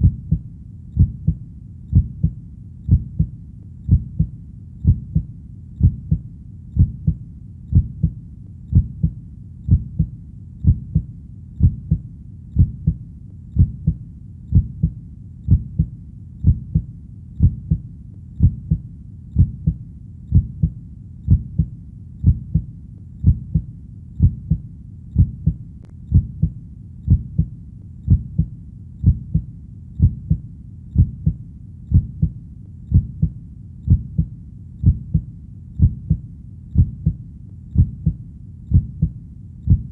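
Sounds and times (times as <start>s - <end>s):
heartbeat low double thump: 0.0s - 0.4s, 1.0s - 3.3s, 3.9s - 6.2s, 6.8s - 12.0s, 12.6s - 13.0s, 13.6s - 17.8s, 18.4s - 18.8s, 19.4s - 24.6s, 25.2s - 27.5s, 28.1s - 30.4s, 31.0s - 36.2s, 36.8s - 37.2s, 37.8s - 39.9s.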